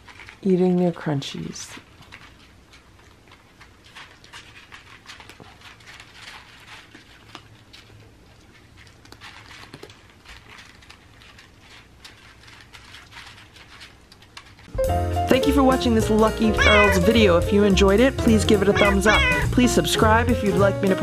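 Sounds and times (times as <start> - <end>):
cats crunching dry kibble: 0.0 - 14.7, 15.5 - 21.0.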